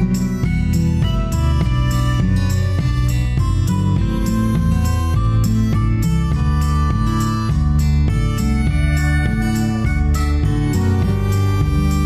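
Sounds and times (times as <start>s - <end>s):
plucked instrumental music: 0.0s - 12.0s
steady bass: 0.0s - 12.0s.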